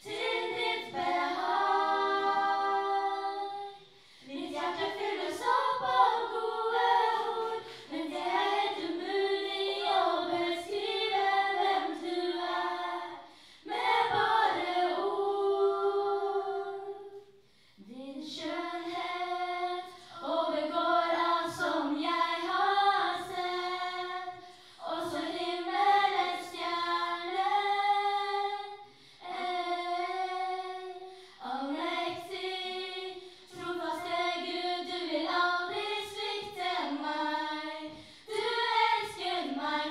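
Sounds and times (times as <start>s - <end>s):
women singing in harmony: 0.0s - 39.9s.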